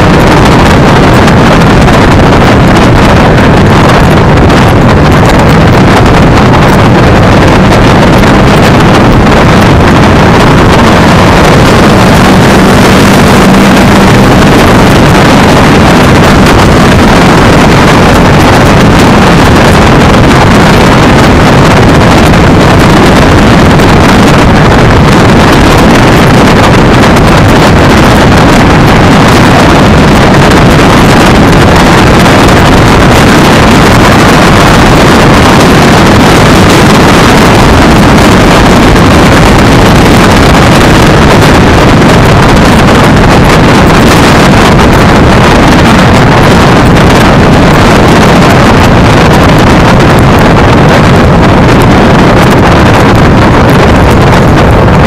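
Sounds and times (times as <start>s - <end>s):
low hum: 0.0s - 55.0s
wind buffeting microphone: 0.0s - 55.0s.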